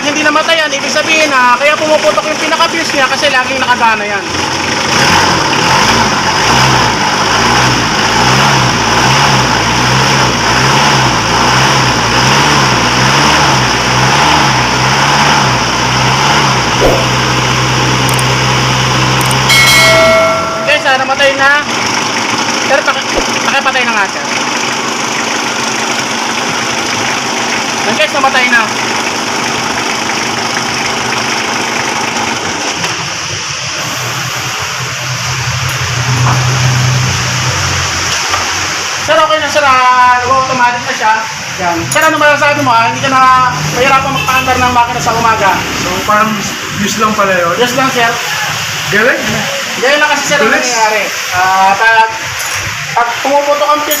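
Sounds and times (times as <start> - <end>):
diesel engine idling: 0.0 - 39.1, 41.1 - 50.2.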